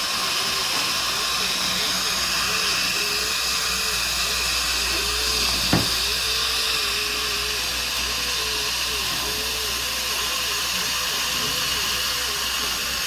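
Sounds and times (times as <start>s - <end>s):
dental drill whining: 0.0s - 13.0s.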